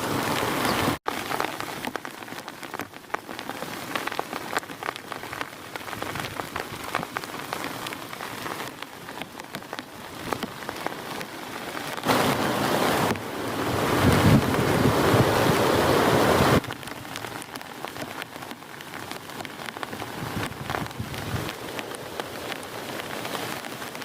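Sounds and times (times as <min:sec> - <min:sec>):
heavy rain on hard surface: 0:00.0 - 0:24.0.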